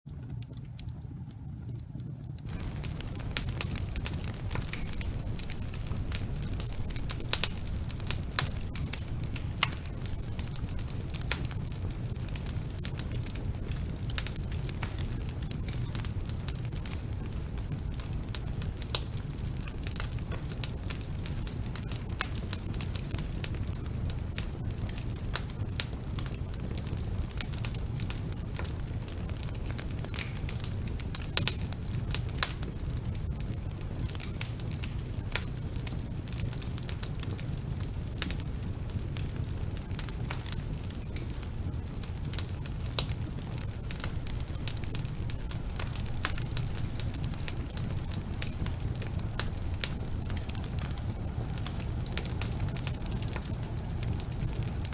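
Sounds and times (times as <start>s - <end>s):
fire rumbling in fireplace: 0.1s - 54.9s
wood fire crackles and pops: 0.1s - 54.9s.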